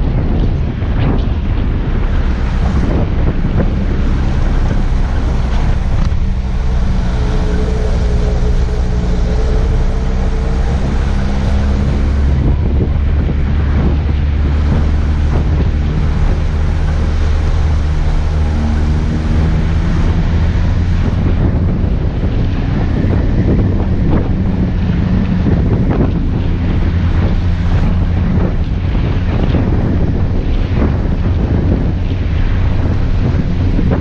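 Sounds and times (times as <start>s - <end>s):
engine running at low revs: 0.0s - 34.0s.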